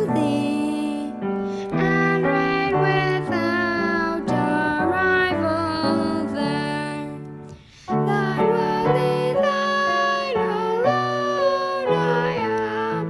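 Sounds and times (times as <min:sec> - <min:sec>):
high voice singing a hymn: 0:00.0 - 0:13.0
piano accompaniment: 0:00.0 - 0:13.0.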